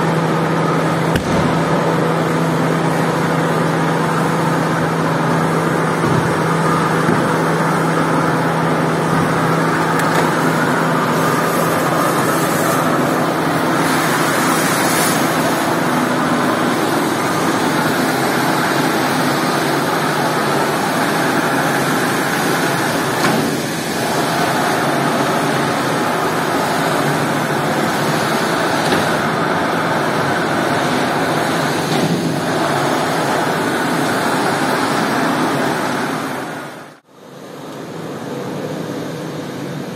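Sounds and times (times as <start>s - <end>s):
carpet scrubbing machine running: 0.0s - 39.9s.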